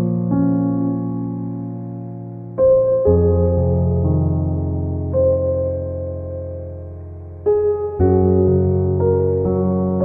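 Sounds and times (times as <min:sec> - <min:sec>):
keyboard piano chords: 0:00.0 - 0:10.0.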